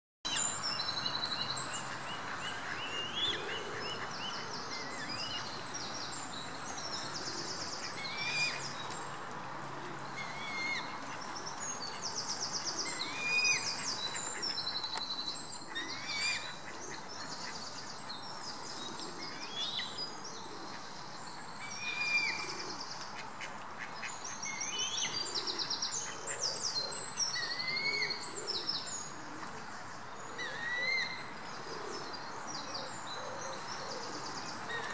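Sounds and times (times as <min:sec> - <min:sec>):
steady background hiss: 0:00.3 - 0:34.9.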